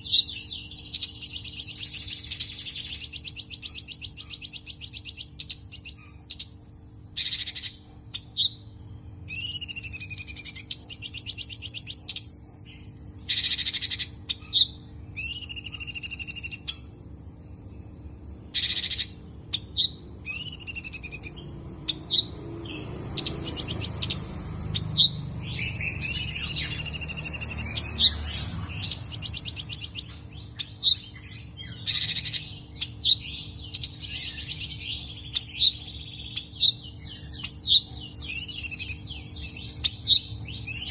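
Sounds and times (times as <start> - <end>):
songbird buzzy trills: 0.0 - 40.9
steady low hum: 0.0 - 40.9.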